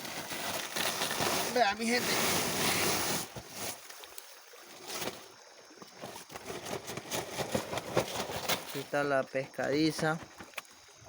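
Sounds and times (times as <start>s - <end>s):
faint watery rush: 0.0s - 11.0s.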